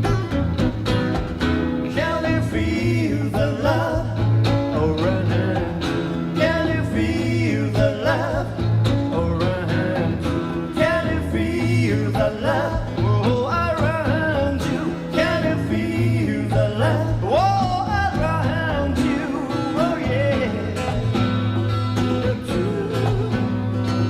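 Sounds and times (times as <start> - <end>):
acoustic guitar music: 0.0 - 24.0
person singing wordlessly: 1.8 - 21.2, 22.0 - 24.0.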